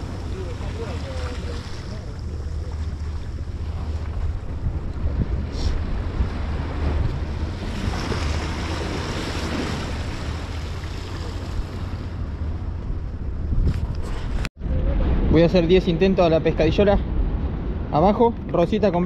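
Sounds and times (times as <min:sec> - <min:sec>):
sea surf waves: 0:00.0 - 0:18.2
wind buffeting microphone: 0:00.0 - 0:19.0.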